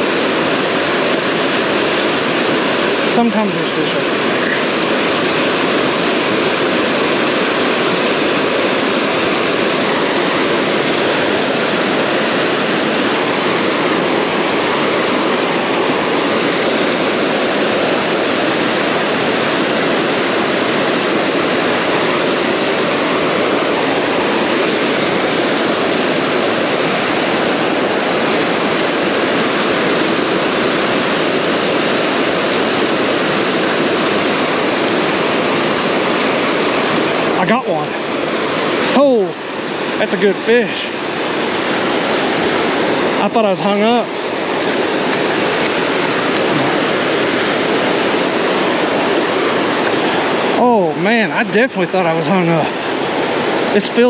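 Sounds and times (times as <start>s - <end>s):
whitewater roaring over rocks: 0.0s - 54.0s.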